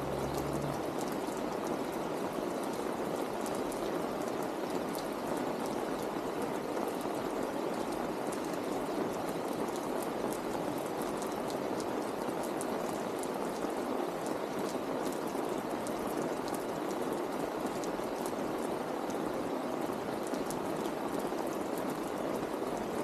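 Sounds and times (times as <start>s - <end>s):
raindrops ticking close by: 0.0s - 23.0s
steady rain hiss: 0.0s - 23.0s.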